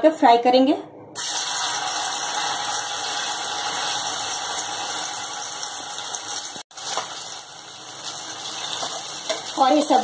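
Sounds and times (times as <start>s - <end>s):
dumplings sizzling in hot oil: 1.2s - 10.0s.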